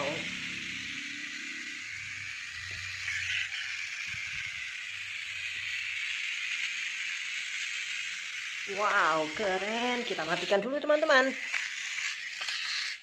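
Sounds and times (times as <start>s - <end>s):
toy car motor whirring: 0.0s - 13.0s.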